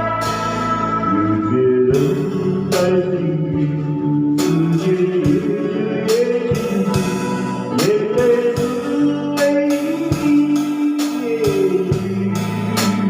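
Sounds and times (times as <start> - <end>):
drum kit beat: 0.0 - 13.0
electric guitar melody: 0.0 - 13.0.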